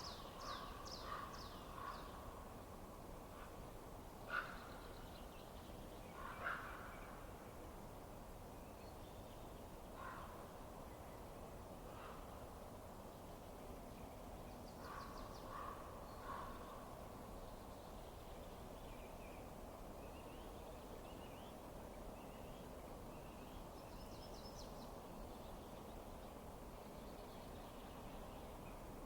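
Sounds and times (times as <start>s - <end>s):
steady low hiss: 0.0s - 6.2s, 7.0s - 29.0s.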